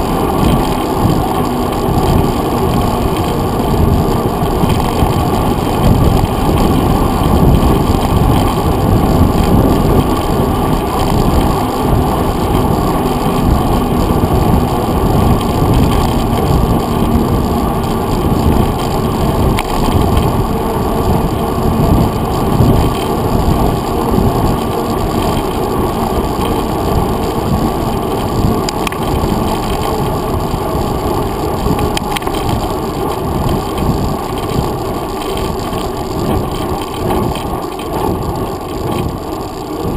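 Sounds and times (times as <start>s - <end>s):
tyre rumble on road: 0.0s - 39.9s
wind noise: 0.0s - 39.9s
faint rattling clicks: 0.1s - 39.9s.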